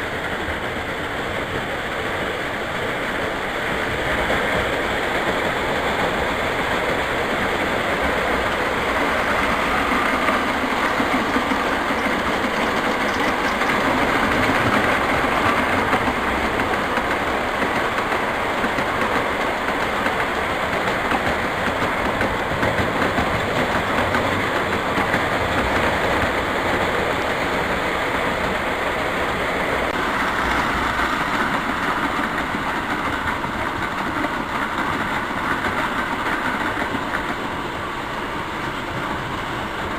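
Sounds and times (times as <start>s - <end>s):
model trains running on track: 0.0s - 39.9s.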